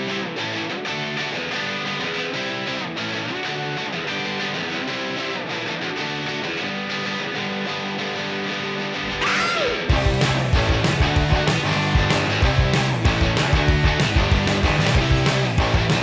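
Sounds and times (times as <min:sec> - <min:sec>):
distorted electric guitar music: 0:00.0 - 0:16.0.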